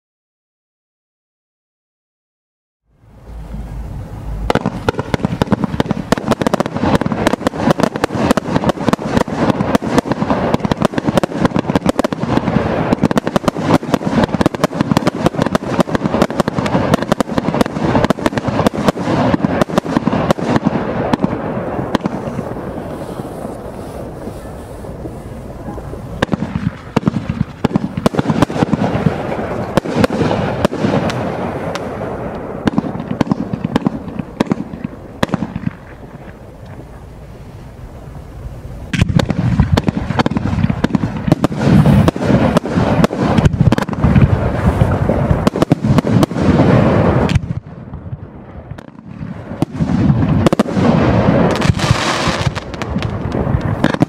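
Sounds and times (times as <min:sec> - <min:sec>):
firework barrage: 0:03.0 - 0:54.0.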